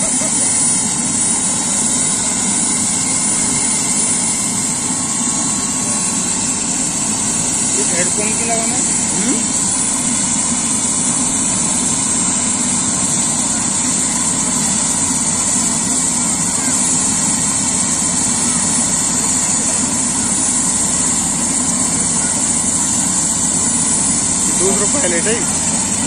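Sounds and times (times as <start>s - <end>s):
helicopter turbine idling: 0.0s - 26.0s.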